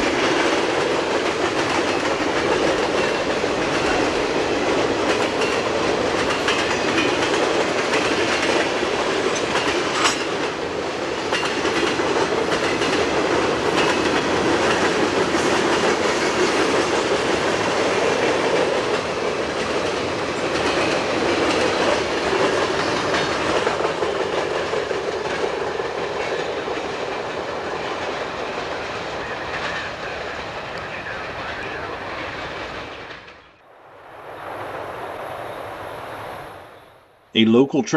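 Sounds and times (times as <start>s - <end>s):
train wheels rolling on rails: 0.0s - 37.1s.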